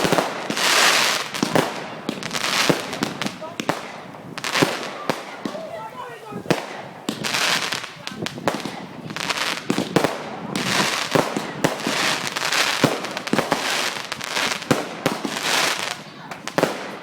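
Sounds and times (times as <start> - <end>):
fireworks bangs and cracks: 0.0 - 17.0
hissing crackle: 0.0 - 17.0.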